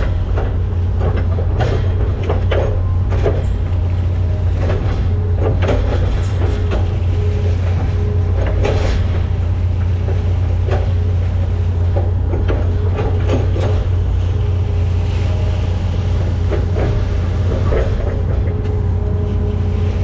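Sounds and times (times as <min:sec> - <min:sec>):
excavator diesel engine droning: 0:00.0 - 0:20.0
machine clunks and rattles: 0:00.0 - 0:20.0.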